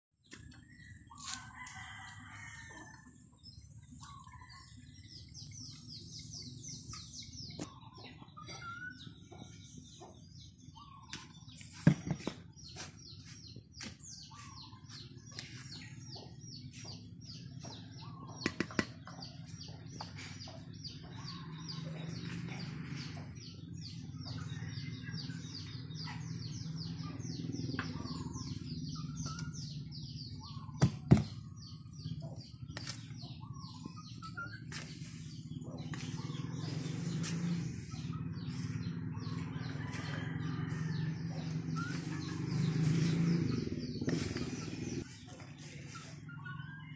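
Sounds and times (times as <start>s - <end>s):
birds chirping: 0.2s - 46.9s
bird calls: 3.6s - 46.9s.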